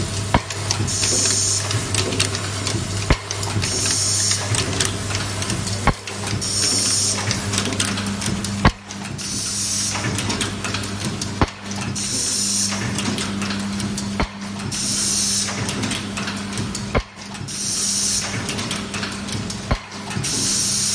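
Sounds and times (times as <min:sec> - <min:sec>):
machine clacking: 0:00.0 - 0:20.9
steady low machine hum: 0:00.0 - 0:20.9.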